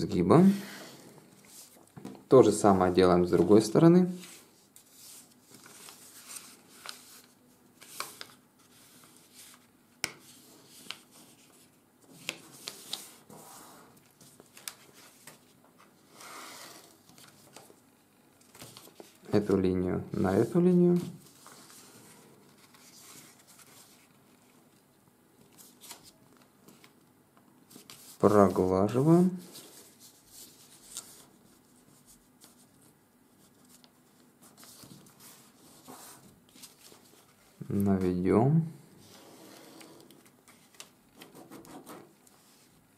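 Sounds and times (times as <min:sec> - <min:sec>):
paper rustling: 0:03.2 - 0:17.8, 0:18.4 - 0:19.3, 0:20.3 - 0:24.8, 0:25.4 - 0:27.0, 0:27.7 - 0:38.1, 0:39.0 - 0:42.8.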